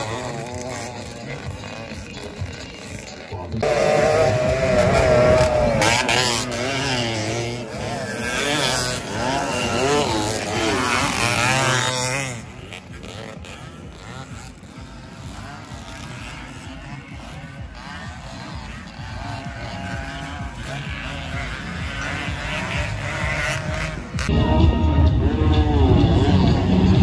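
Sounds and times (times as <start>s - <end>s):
distant engine noise: 0.0s - 27.0s
motorcycles racing past revving: 0.0s - 27.0s.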